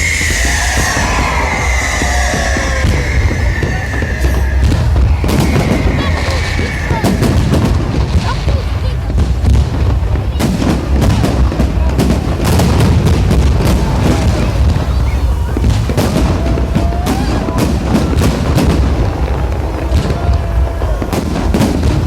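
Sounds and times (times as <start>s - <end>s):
fireworks bursting: 0.0s - 22.0s
low rumble of booms: 0.0s - 22.0s.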